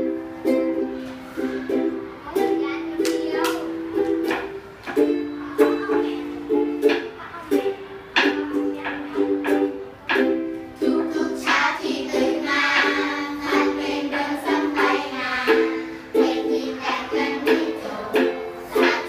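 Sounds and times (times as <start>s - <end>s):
ukulele strumming: 0.0s - 19.0s.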